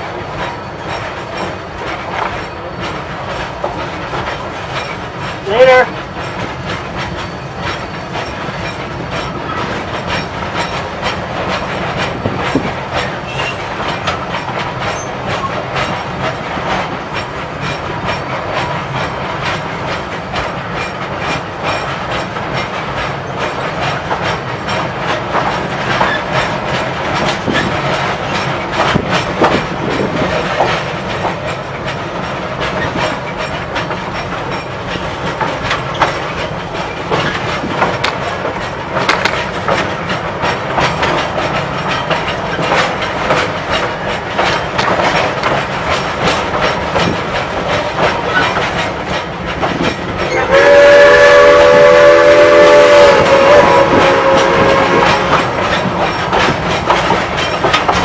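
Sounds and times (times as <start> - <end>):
train wheels clicking over rail joints: 0.0 - 58.0.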